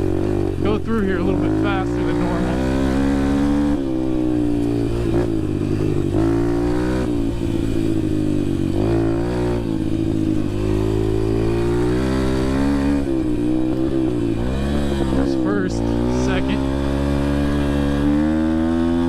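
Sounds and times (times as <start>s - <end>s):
dirt bike engine: 0.0s - 19.0s.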